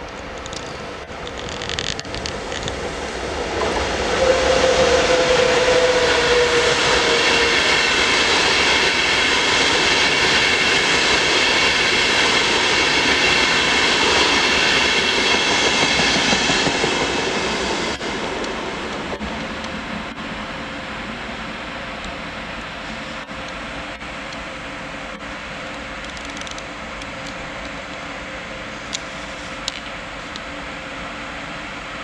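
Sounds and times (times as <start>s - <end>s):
train wheels rushing on rail: 0.0s - 32.0s.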